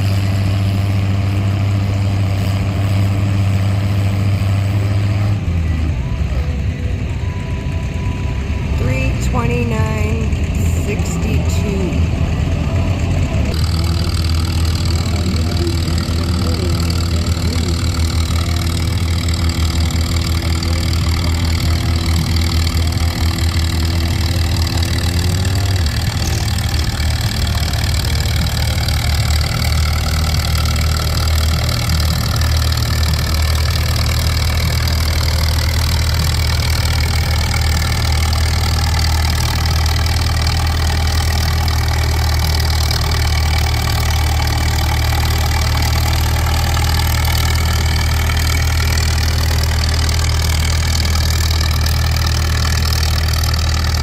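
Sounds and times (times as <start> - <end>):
higher engine tone: 0.0 - 54.0
tractor engine running: 0.0 - 54.0.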